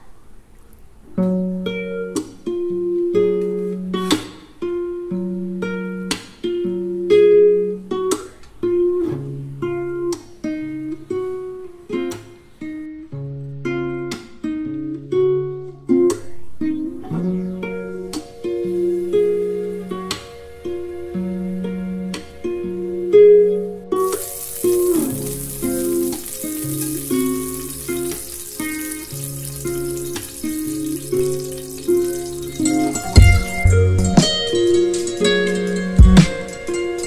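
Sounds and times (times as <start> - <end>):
strummed guitar chords: 1.2 - 37.0.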